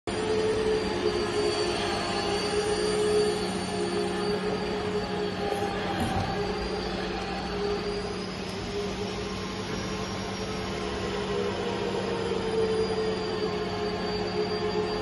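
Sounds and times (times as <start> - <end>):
laser cutting machine whining hum: 0.1 - 15.0.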